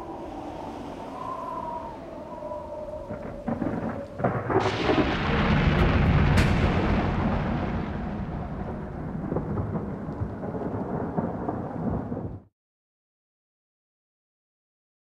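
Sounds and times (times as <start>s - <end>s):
steady rain: 0.0s - 12.4s
thunder: 0.0s - 12.5s.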